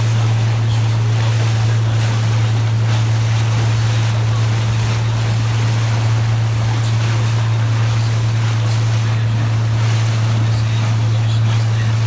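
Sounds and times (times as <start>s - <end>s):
boat engine drone: 0.0s - 12.0s
rushing water: 0.0s - 12.0s
wind: 0.0s - 12.0s.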